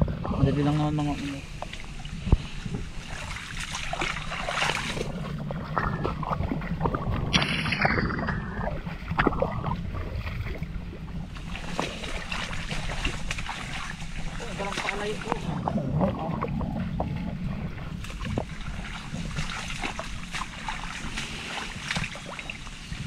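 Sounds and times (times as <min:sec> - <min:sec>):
water splashing and sloshing: 0:00.0 - 0:23.0
wind rumble on microphone: 0:00.0 - 0:23.0.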